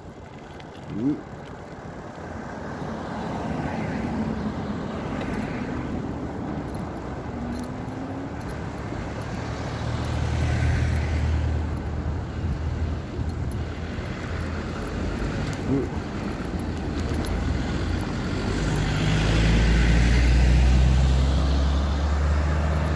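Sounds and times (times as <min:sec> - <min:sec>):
cars passing: 0:00.0 - 0:22.9
vehicle rumble passing: 0:00.0 - 0:22.9.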